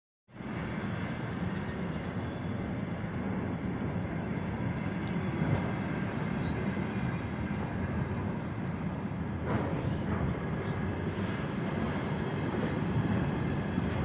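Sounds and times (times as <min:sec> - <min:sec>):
steel train wheels rumbling on rails: 0:00.3 - 0:14.0.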